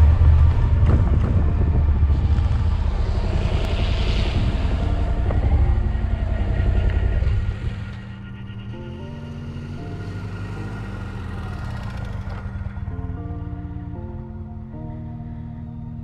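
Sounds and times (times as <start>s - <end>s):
motorcycle engine running: 0.0s - 14.6s
wind rumble: 0.0s - 16.0s.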